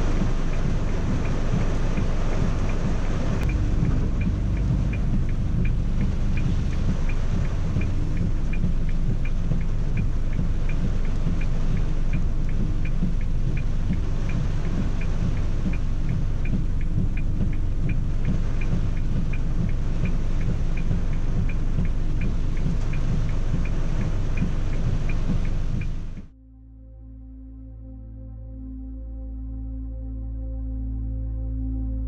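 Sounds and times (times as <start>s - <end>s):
light even ticking: 0.0s - 26.3s
rain falling on a car: 0.0s - 26.3s.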